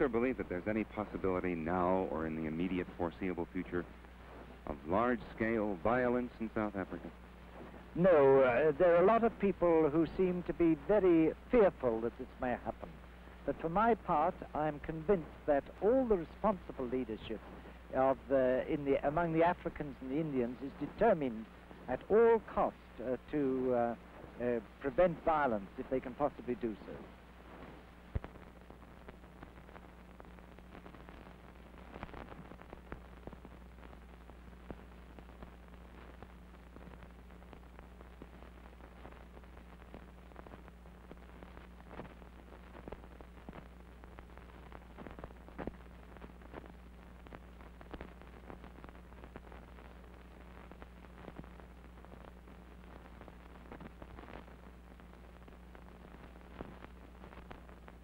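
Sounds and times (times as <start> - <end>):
faint hiss: 0.0 - 58.0.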